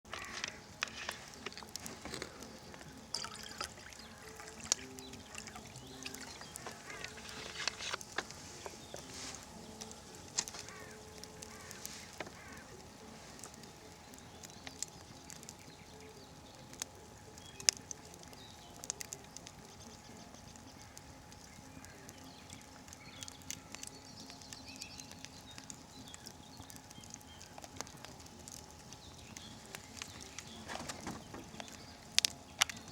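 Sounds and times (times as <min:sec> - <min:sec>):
campfire crackling and popping: 0:00.0 - 0:32.9
fire hissing: 0:00.1 - 0:32.9.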